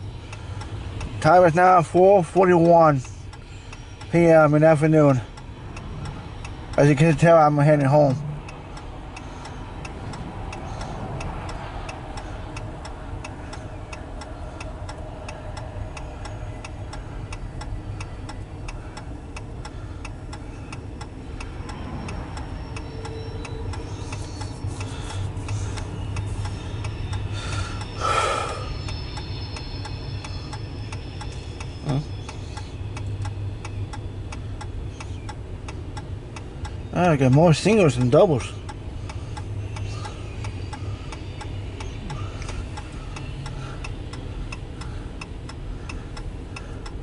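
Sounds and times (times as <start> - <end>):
engine and road hum: 0.0 - 47.0
turn signal ticking: 0.0 - 47.0.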